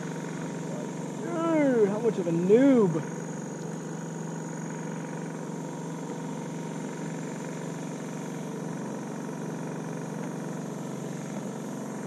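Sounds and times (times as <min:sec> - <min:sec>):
small boat engine humming: 0:00.0 - 0:12.0.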